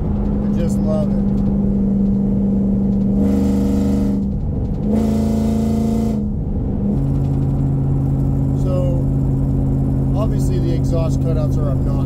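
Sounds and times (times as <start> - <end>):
car exhaust drone: 0.0 - 12.0.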